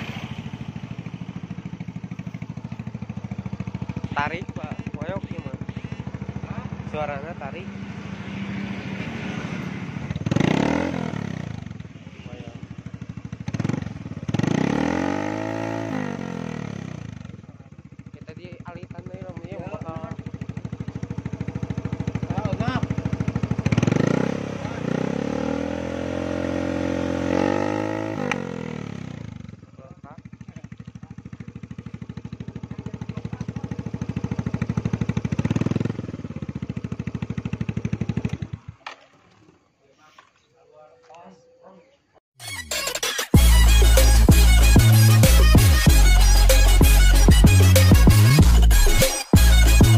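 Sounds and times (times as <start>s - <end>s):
scooter engine revving: 0.0s - 39.0s, 42.5s - 49.9s.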